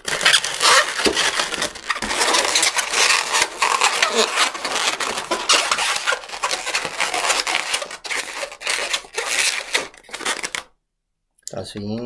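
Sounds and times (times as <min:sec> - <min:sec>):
balloon squeaking and rubbing: 0:00.0 - 0:10.8.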